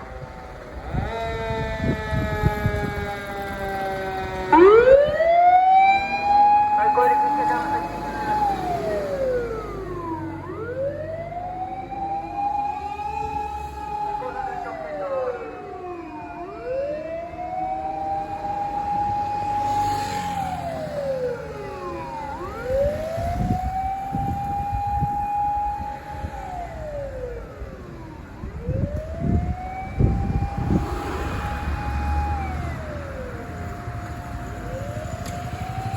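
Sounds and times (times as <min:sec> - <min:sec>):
electronic siren slow wail: 0:00.0 - 0:35.9.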